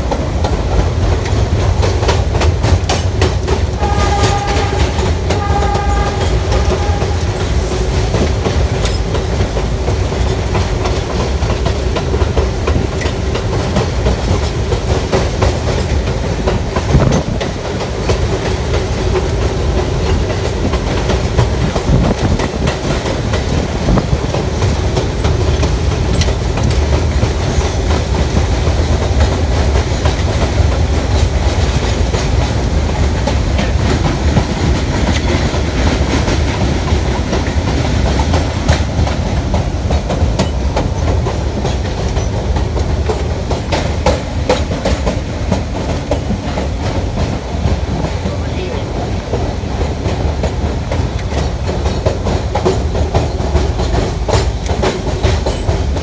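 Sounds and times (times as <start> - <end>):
train rumbling: 0.0 - 56.0
wheels clacking over rail joints: 0.0 - 56.0.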